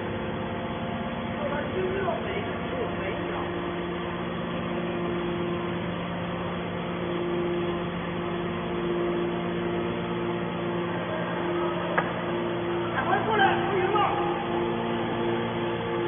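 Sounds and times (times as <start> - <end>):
baling press machine hum: 0.0 - 16.0.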